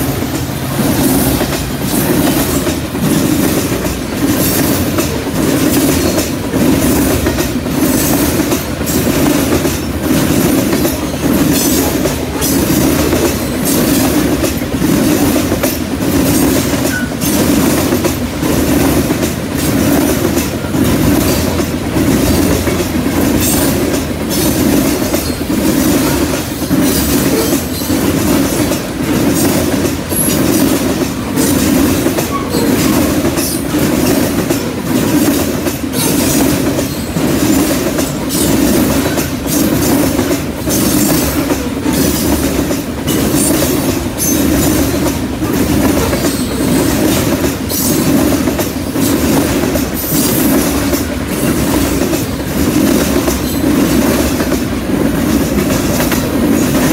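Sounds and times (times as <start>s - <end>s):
clickety-clack over rail joints: 0.0s - 56.9s
train wheels rumbling on rail: 0.0s - 56.9s.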